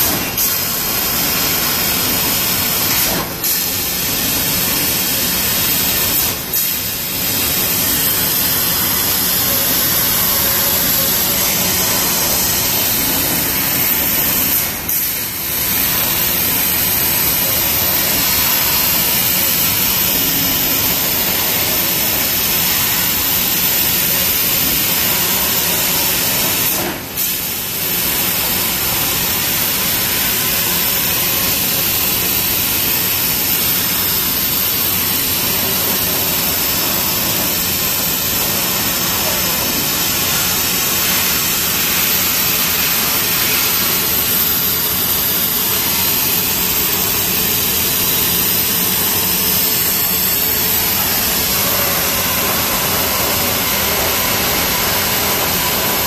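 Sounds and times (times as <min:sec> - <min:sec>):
laser cutter hissing: 0:00.0 - 0:56.0.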